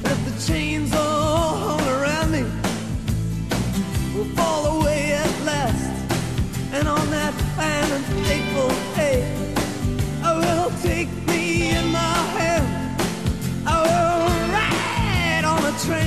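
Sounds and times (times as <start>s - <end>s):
person singing: 0.0s - 2.6s, 4.1s - 6.0s, 6.7s - 16.0s
bass: 0.0s - 16.0s
drum beat: 2.2s - 16.0s.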